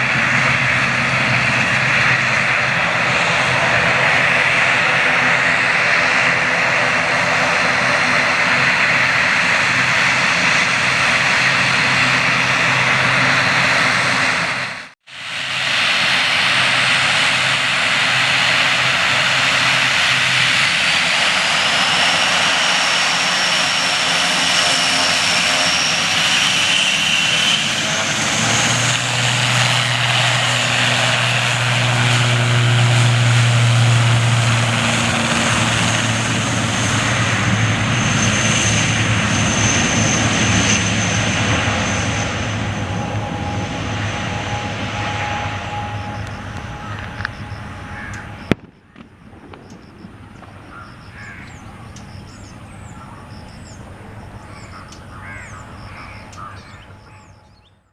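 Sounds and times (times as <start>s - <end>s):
turboprop engines roaring: 0.0s - 57.9s.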